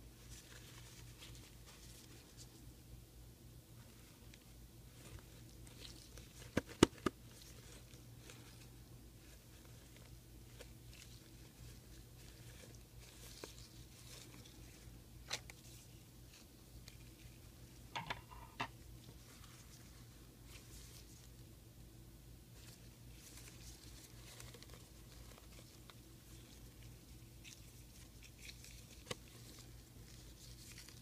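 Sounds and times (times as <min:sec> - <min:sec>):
faint low hum: 0:00.0 - 0:31.0
face mask handling: 0:03.8 - 0:21.4, 0:22.6 - 0:31.0.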